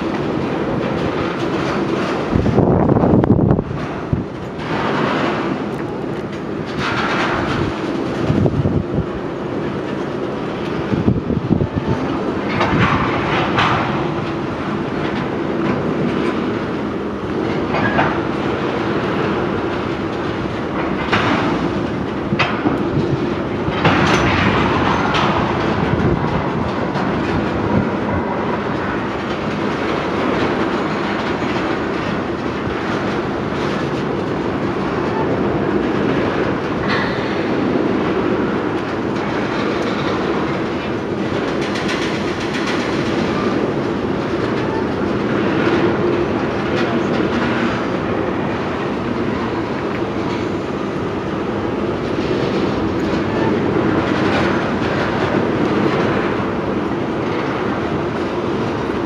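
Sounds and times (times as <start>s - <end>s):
train clickety-clack: 0.0s - 59.0s
train wheels rumbling on rails: 0.0s - 59.0s.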